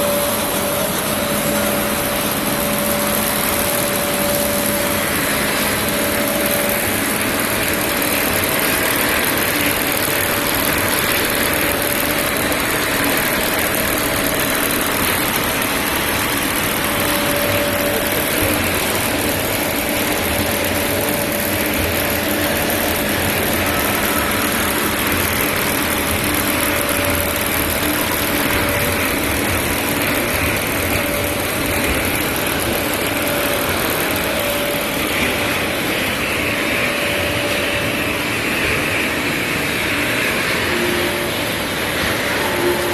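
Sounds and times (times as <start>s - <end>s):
machinery hum and whir: 0.0s - 42.9s.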